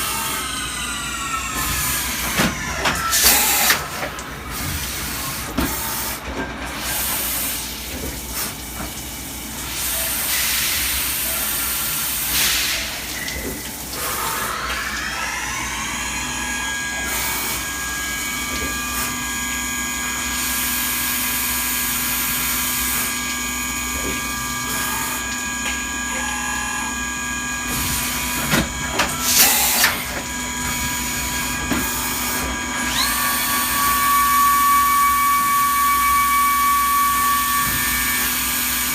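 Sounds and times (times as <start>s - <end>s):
milling machine hissing: 0.0s - 6.2s, 9.6s - 38.9s.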